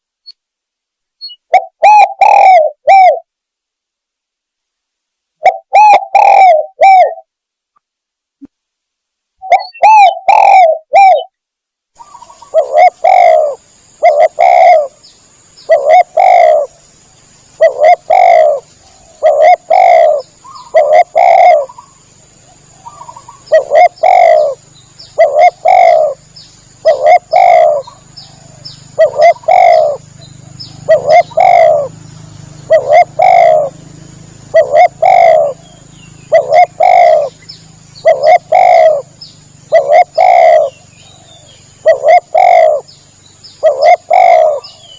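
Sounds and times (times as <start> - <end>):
dove cooing: 1.3 - 3.3, 5.4 - 7.3, 9.4 - 11.3, 12.0 - 15.0, 15.6 - 16.8, 17.6 - 44.9.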